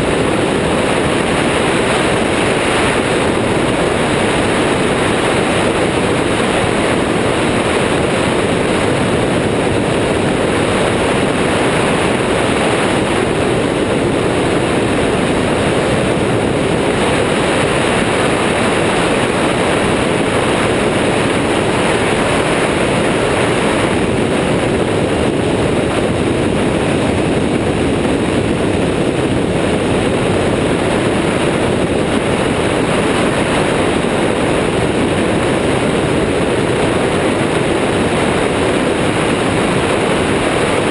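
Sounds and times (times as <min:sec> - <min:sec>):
aircraft engine drone: 0:00.0 - 0:40.9
wind buffeting microphone: 0:00.0 - 0:40.9.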